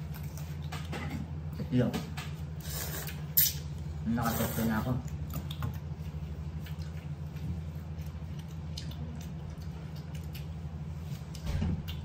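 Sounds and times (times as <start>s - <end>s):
man chewing cucumber: 0.0s - 1.7s, 2.6s - 12.0s
steady low hum: 0.0s - 12.0s.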